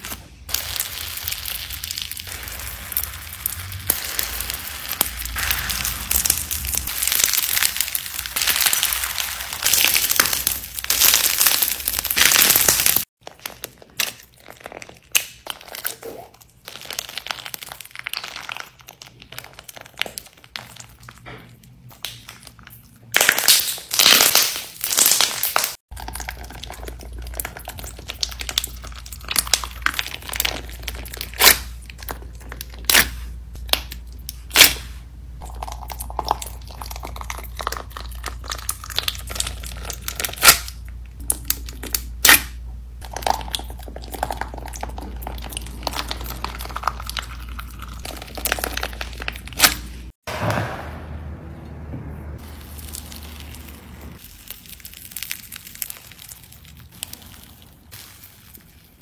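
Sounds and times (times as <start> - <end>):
crunchy slime crackling: 0.0 - 50.2, 52.4 - 59.0.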